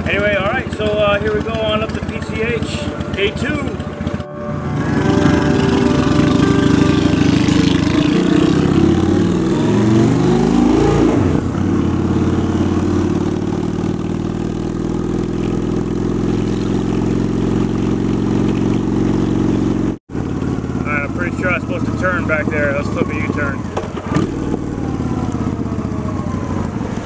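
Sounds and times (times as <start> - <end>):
motorcycle accelerating: 0.0 - 27.0.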